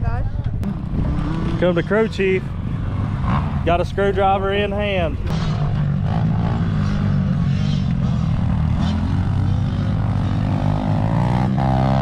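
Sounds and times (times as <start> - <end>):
dirt bike engine revving: 0.6 - 4.2, 5.1 - 12.0.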